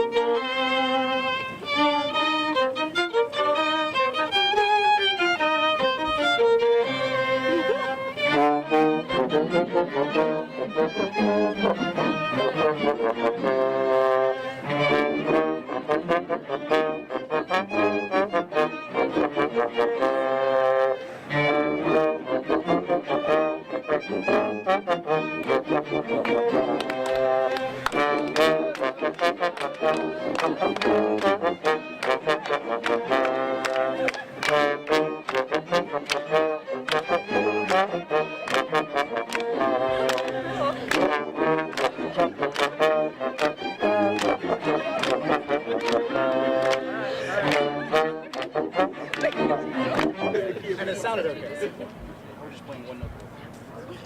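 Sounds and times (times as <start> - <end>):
violin playing quick melody: 0.0 - 51.2
instrumental brass music: 0.0 - 52.4.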